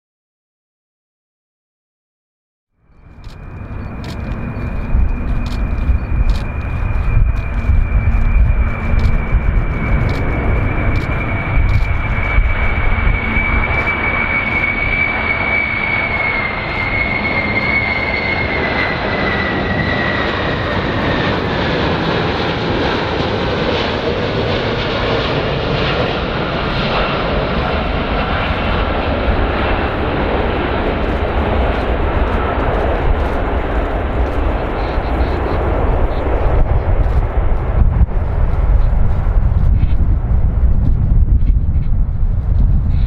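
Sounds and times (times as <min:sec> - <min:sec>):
airplane engine whine: 0:02.7 - 0:43.0.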